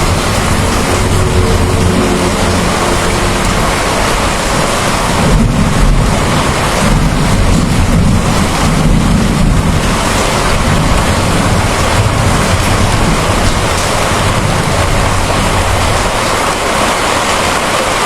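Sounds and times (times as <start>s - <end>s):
low rumbling thunder: 0.0s - 17.7s
heavy rain: 0.0s - 18.0s.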